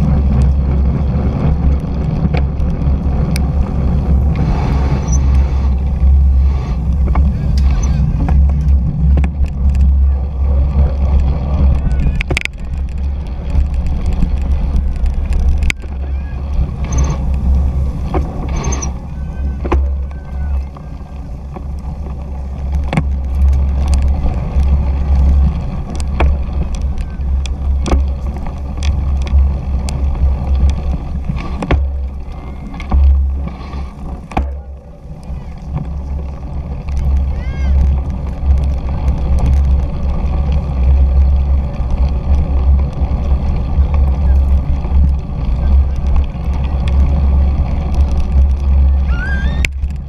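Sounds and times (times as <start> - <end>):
bike rattling over rough dirt: 0.0 - 50.0
wind rumble on microphone: 0.0 - 50.0.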